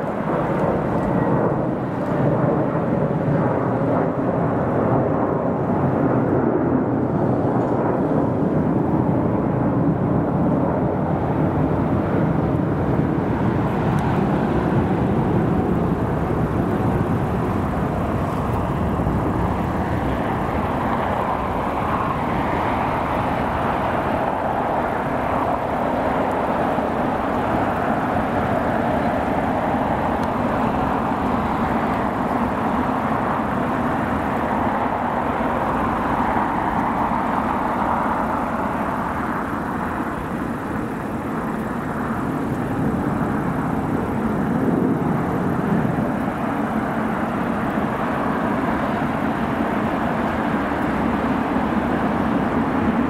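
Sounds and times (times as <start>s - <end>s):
jet airliner engines: 0.0s - 53.0s.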